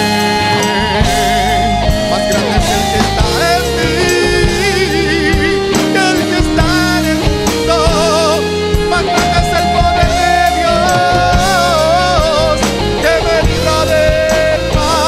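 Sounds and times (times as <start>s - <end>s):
electric guitar solo: 0.0s - 15.0s
rock band playing: 0.0s - 15.0s.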